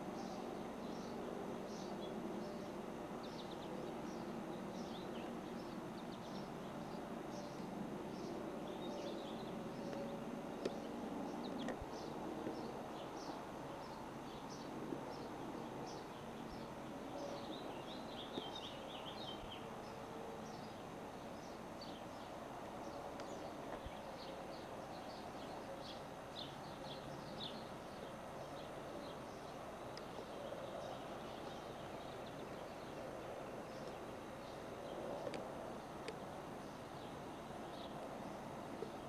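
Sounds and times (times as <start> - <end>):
outdoor background noise: 0.0 - 39.0
small birds chirping: 0.0 - 39.0.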